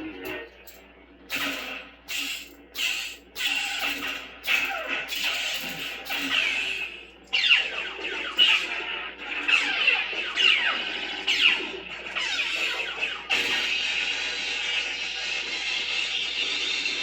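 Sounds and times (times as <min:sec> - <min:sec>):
lightsaber electric hum: 0:00.0 - 0:17.0.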